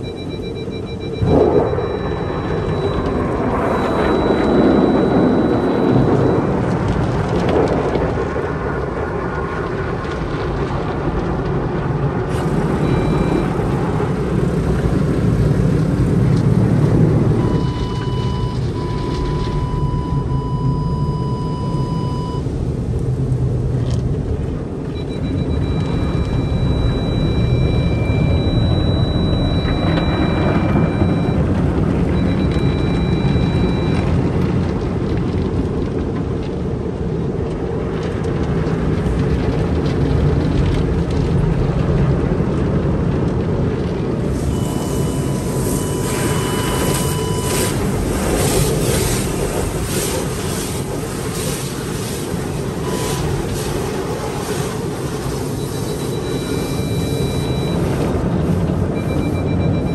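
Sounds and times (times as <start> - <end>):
car wash water spray rumble: 0.0 - 59.9.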